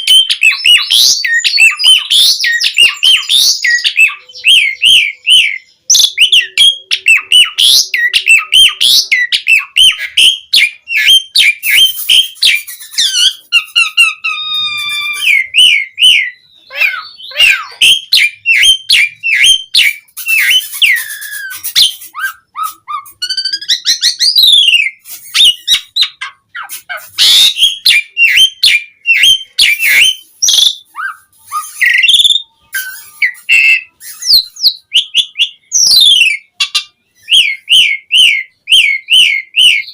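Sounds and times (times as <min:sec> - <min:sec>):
harsh rasping bird calls: 0:00.0 - 0:39.9
starling singing: 0:00.0 - 0:39.9.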